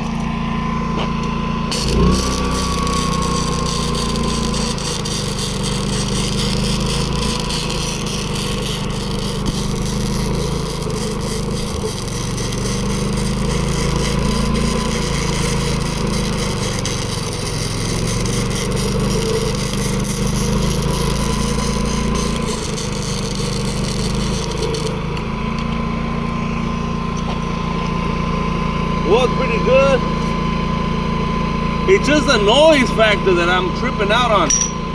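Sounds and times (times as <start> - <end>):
generator engine running: 0.0 - 34.9
welding arc sizzling: 0.0 - 34.9.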